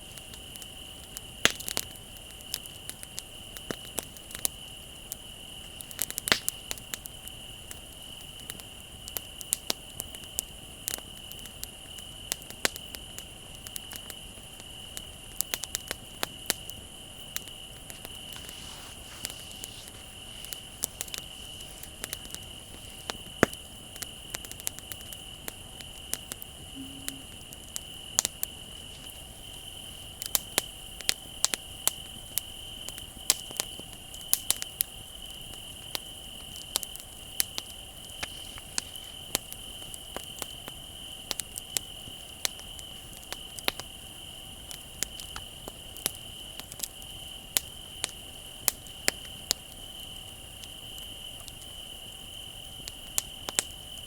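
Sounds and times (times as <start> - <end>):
bonfire crackling and popping: 0.0 - 54.0
crickets trilling: 0.0 - 54.0.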